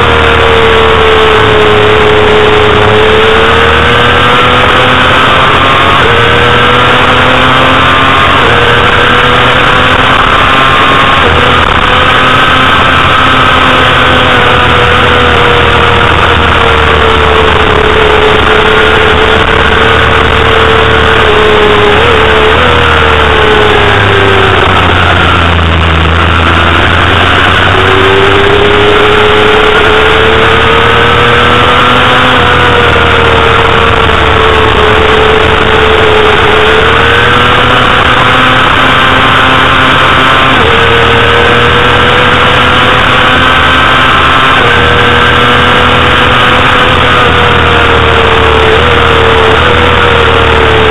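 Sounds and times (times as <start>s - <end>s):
motorcycle engine at high revs: 0.0s - 50.9s
steady rush of noise: 0.0s - 50.9s.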